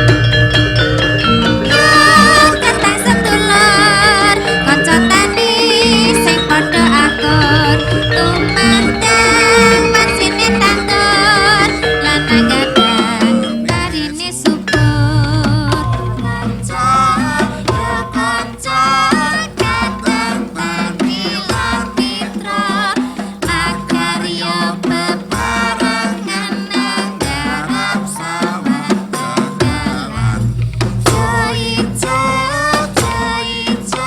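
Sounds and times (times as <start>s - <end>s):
drum: 0.0s - 34.0s
struck bronze instruments: 0.0s - 34.0s
person singing: 0.8s - 34.0s.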